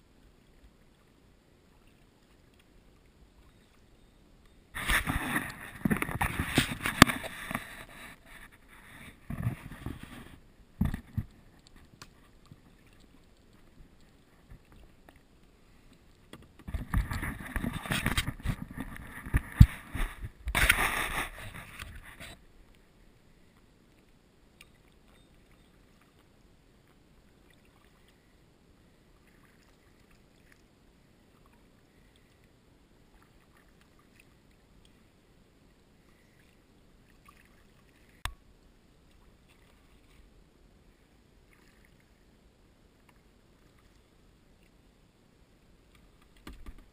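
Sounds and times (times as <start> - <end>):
paddle splashing: 4.6 - 28.4, 29.2 - 35.1, 36.0 - 38.3, 39.0 - 44.7.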